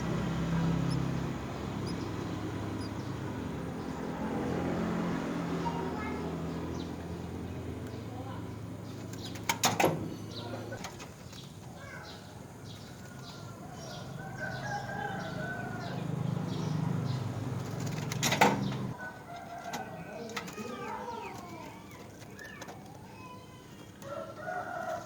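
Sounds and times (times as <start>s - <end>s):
birds calling and chirping: 0.0s - 25.0s.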